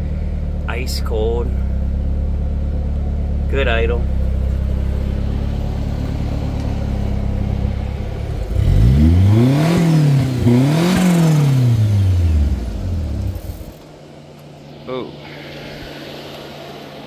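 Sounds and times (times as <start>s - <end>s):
truck engine idling and revving: 0.0s - 17.0s.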